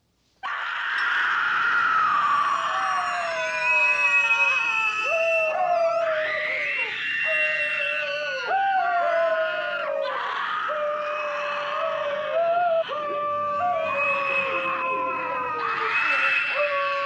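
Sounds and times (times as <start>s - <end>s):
overlapping wailing howls: 0.5s - 17.0s.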